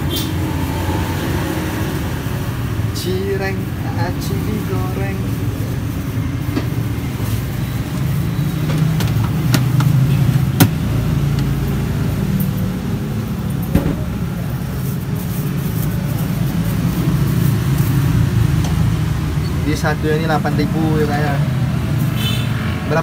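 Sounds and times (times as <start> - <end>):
engine low rumble: 0.0 - 22.1.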